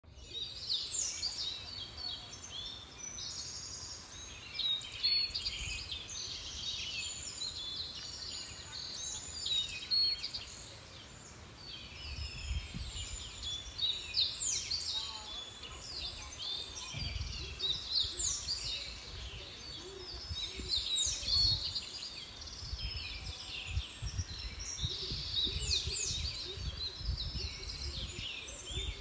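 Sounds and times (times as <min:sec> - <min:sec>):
small birds chirping and singing: 0:00.0 - 0:29.0.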